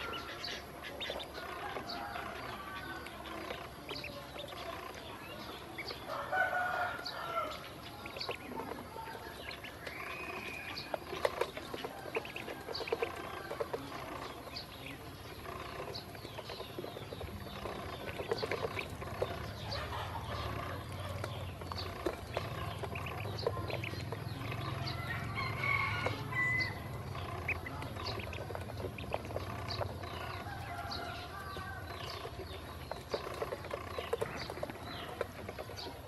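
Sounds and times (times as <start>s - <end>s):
ducklings peeping: 0.0s - 36.0s.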